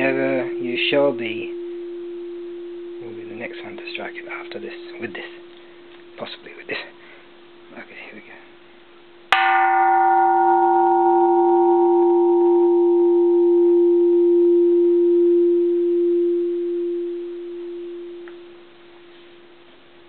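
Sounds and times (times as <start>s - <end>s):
temple bell ringing: 0.0s - 7.8s, 9.3s - 18.6s.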